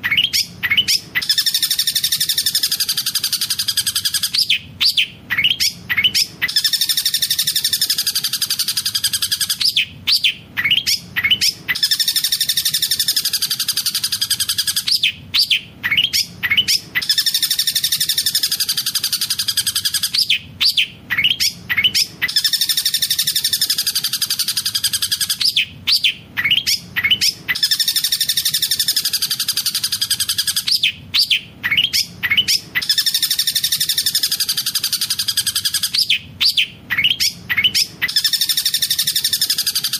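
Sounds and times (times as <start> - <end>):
sharp bird notes: 0.0 - 39.9
shrike singing rolling chatter: 0.0 - 39.9.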